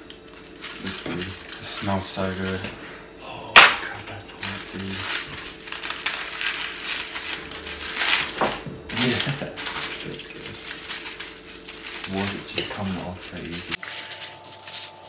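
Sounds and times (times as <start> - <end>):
aluminium foil crinkling: 0.0 - 2.7, 3.8 - 15.0.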